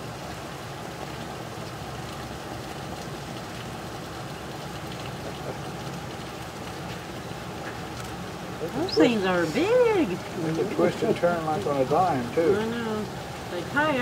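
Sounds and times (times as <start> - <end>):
faint water patter: 0.0 - 14.0.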